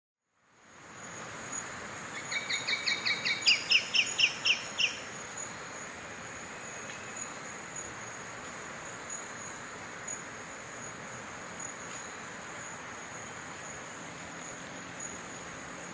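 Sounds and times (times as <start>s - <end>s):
background hiss: 0.4s - 15.9s
high insect trill: 1.0s - 15.9s.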